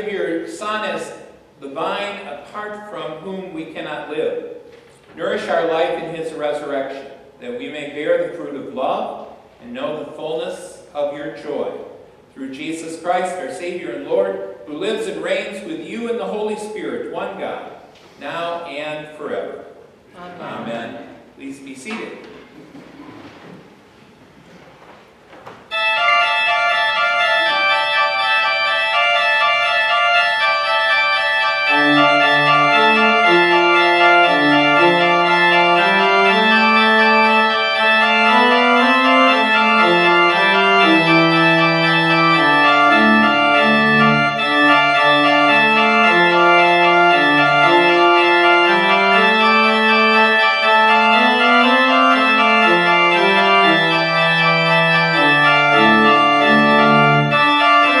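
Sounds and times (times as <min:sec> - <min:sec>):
church organ playing: 0:00.0 - 0:04.6, 0:05.2 - 0:17.5, 0:20.4 - 0:21.8, 0:25.7 - 0:58.0.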